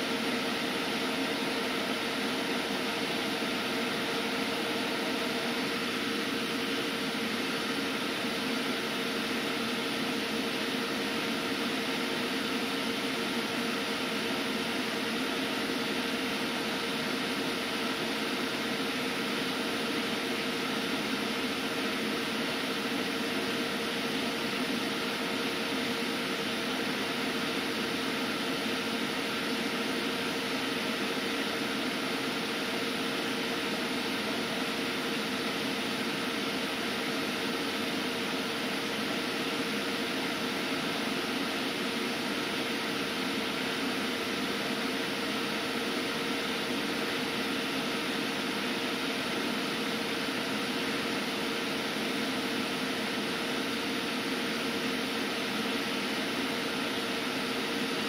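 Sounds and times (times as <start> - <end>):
charger hum and hiss: 0.0 - 58.0.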